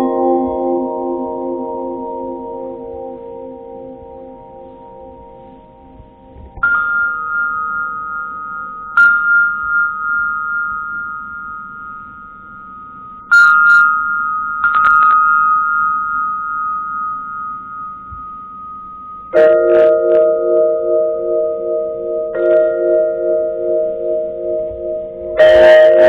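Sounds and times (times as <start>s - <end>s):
metal percussion ringing: 0.0s - 26.0s.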